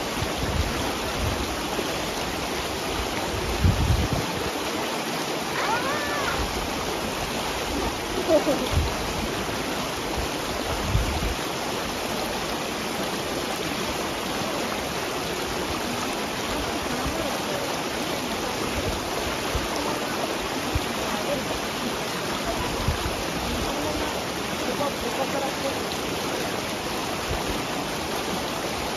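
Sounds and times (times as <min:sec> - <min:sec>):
river water running over stones: 0:00.0 - 0:28.9.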